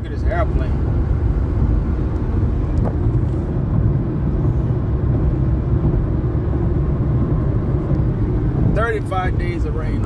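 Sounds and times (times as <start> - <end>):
road and tyre noise in car: 0.0 - 10.0.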